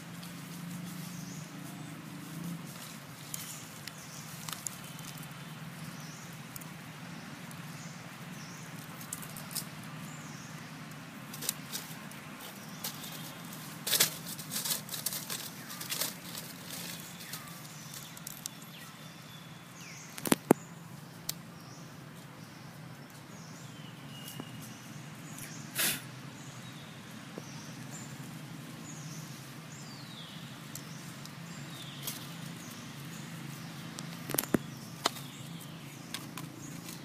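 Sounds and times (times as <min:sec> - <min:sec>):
dry leaves crackling: 0:00.0 - 0:37.0.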